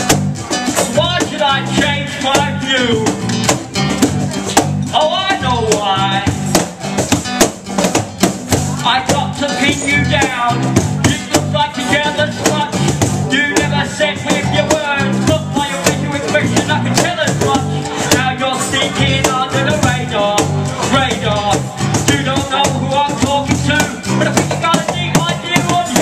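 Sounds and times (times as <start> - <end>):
live band playing: 0.0 - 26.0
sharp drum strikes: 0.0 - 26.0
person rapping: 0.8 - 3.3, 4.4 - 6.5, 8.6 - 26.0.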